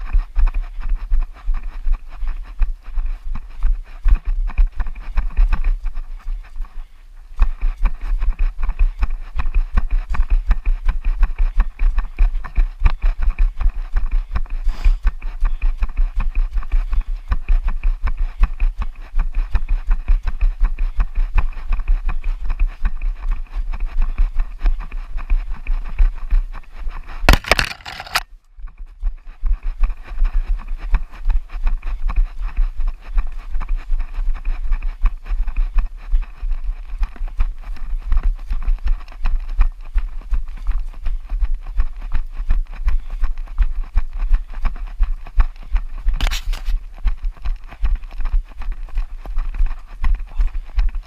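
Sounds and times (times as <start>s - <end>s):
running footsteps: 0.0s - 51.0s.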